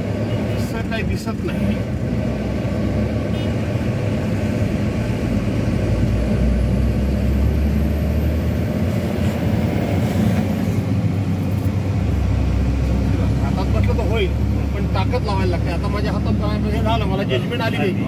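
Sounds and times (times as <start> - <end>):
road noise: 0.0 - 18.0
truck engine droning: 0.0 - 18.0.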